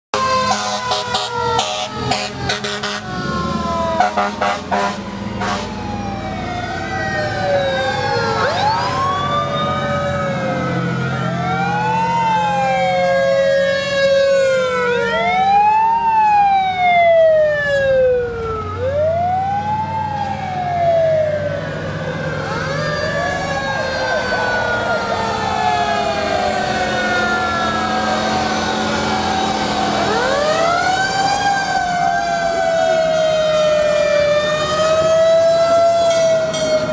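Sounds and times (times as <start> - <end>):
fire truck sirens wailing: 0.1 - 36.9
truck engines running: 0.1 - 36.9.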